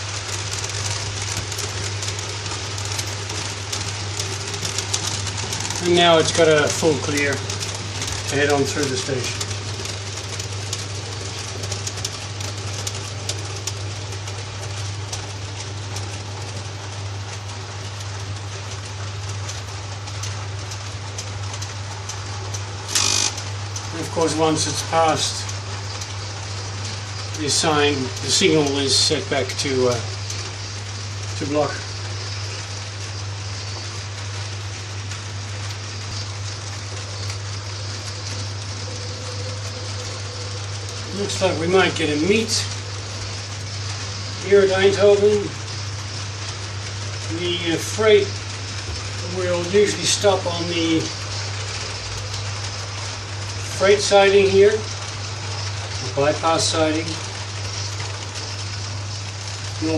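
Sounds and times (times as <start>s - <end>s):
faint motor whine: 0.0s - 59.9s
model train hum: 0.0s - 59.9s
wheels clicking on rails: 0.0s - 59.9s.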